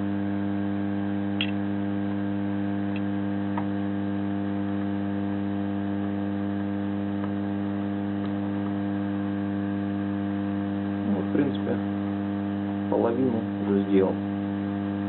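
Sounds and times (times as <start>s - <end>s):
hot-air soldering station hum: 0.0s - 15.0s.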